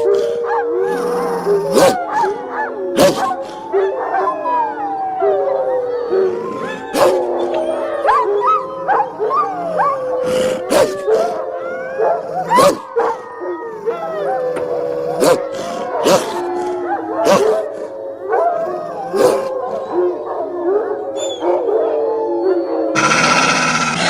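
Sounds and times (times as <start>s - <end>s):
wolves howling: 0.0s - 24.0s.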